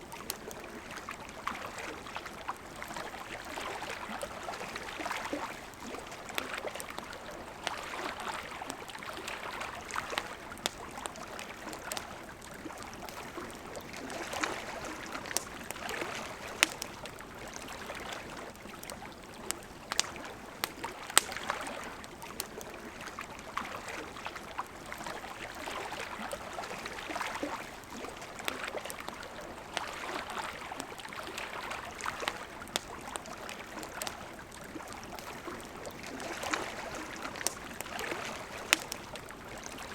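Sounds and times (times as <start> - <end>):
campfire crackling and popping: 0.0 - 39.9
river water running: 0.0 - 39.9.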